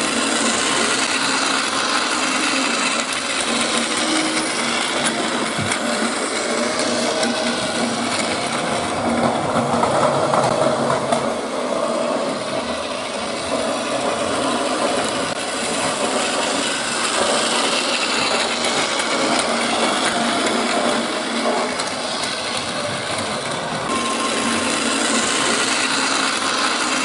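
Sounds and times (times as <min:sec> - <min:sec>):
toy train motor whirring: 0:00.0 - 0:27.0.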